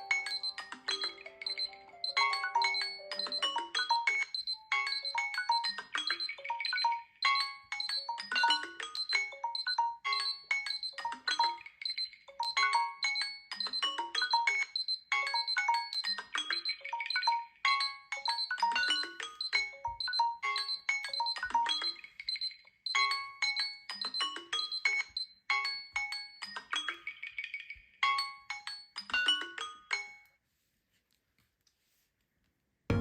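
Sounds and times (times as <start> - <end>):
phone alarm chiming melody: 0.0 - 26.6.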